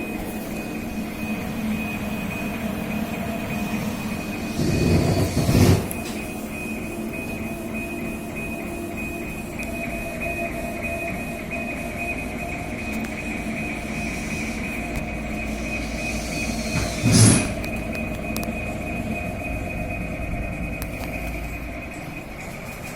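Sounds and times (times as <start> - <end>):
laser engraver high whine: 0.0 - 22.9
low machine hum: 0.0 - 22.9.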